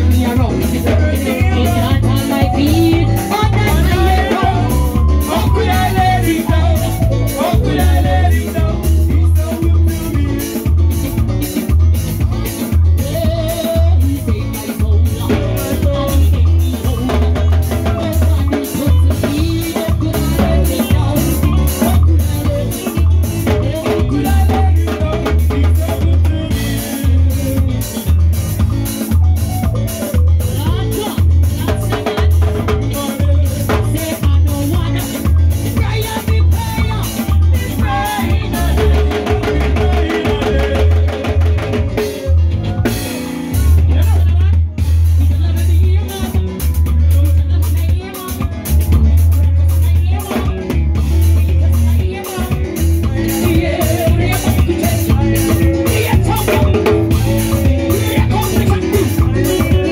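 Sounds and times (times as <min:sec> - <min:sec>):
drum kit beating: 0:00.0 - 0:59.9
heavy bass line: 0:00.0 - 0:59.9
live band playing upbeat music: 0:00.0 - 0:59.9.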